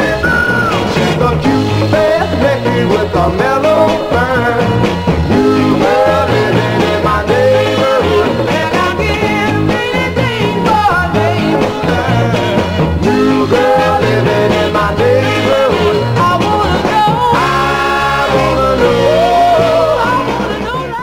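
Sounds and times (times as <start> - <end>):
upbeat song with singing: 0.0 - 21.0.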